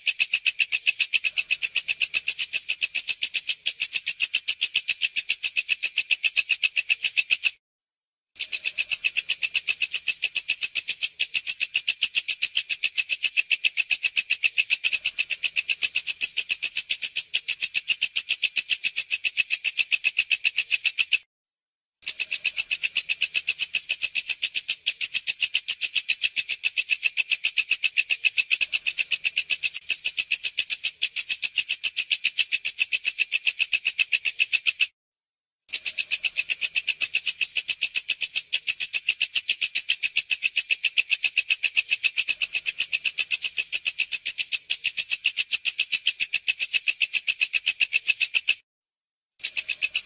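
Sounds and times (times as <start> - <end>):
katydid calling in fast pulses: 0.0 - 7.6, 8.4 - 21.2, 22.0 - 34.9, 35.7 - 48.6, 49.4 - 50.0.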